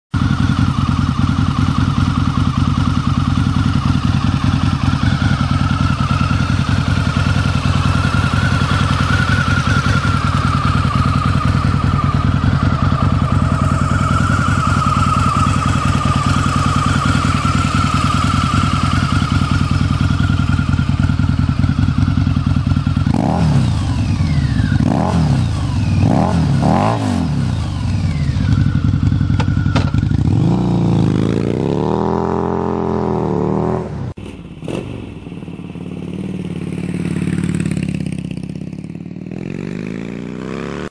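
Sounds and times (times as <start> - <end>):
motorcycle engine idling and revving: 0.1 - 40.9.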